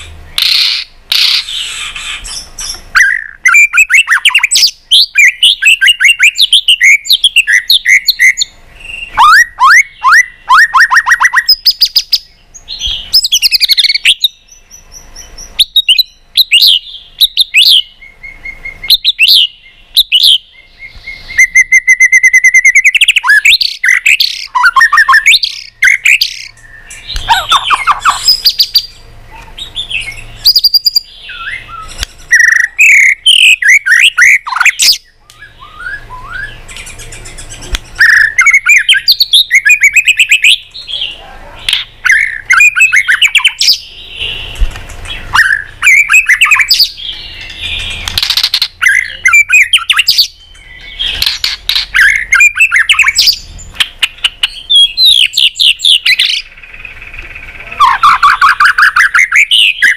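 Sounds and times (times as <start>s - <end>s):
bird singing whistled song: 0.3s - 44.4s, 45.0s - 56.5s, 57.8s - 59.9s.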